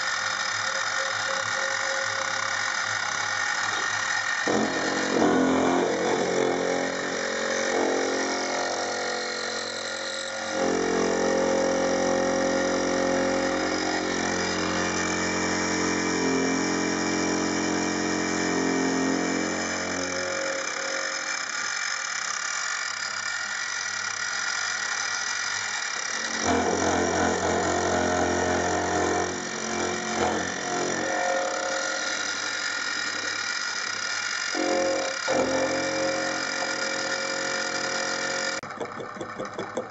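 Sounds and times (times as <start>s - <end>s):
end mill cutting metal: 0.0s - 39.9s
milling machine motor whine: 0.0s - 39.9s.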